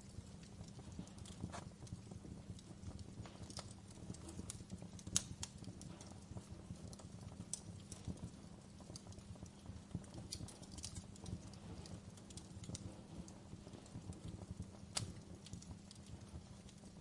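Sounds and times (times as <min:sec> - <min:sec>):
low rumble of burning fire: 0:00.0 - 0:17.0
wood fire crackling and popping: 0:00.0 - 0:17.0.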